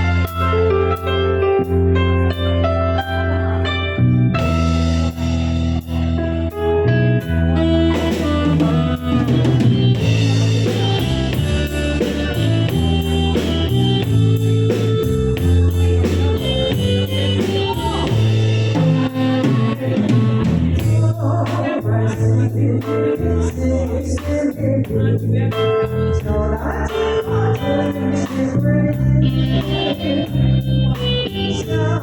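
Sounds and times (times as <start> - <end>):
drum kit beat: 0.0 - 2.7, 4.4 - 32.0
bass: 0.0 - 32.0
guitar melody: 0.0 - 32.0.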